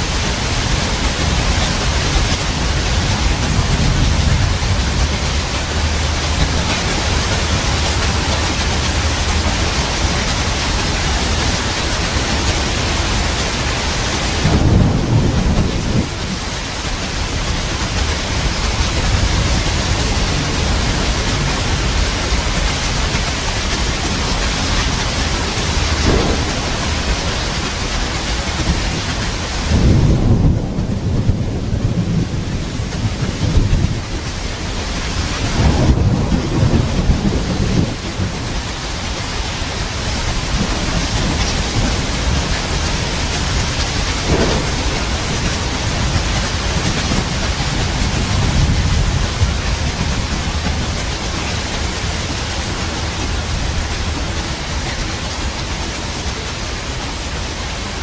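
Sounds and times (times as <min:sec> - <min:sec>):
thunder rumbling: 0:00.0 - 0:56.4
heavy rain: 0:00.0 - 0:58.0.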